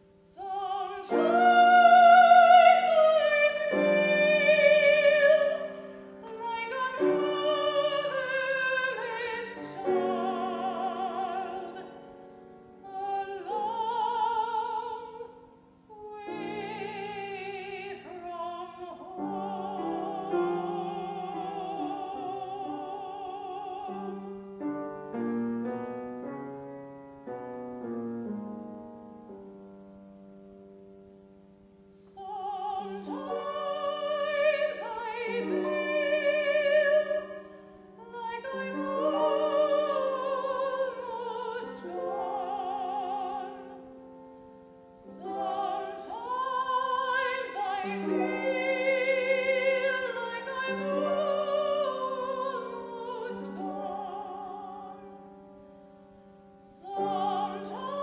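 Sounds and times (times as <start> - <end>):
soprano singing with vibrato: 0.0 - 25.8, 31.9 - 58.0
piano accompaniment: 0.0 - 58.0.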